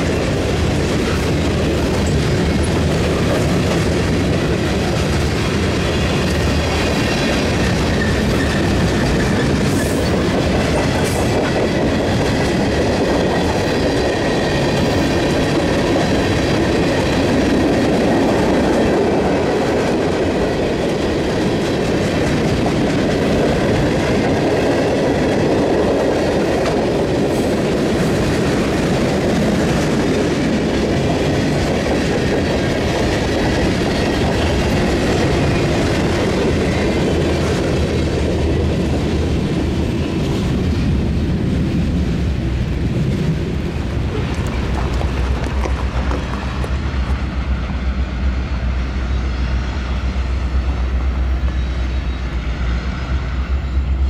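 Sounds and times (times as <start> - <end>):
freight train wheels clattering: 0.0 - 49.0.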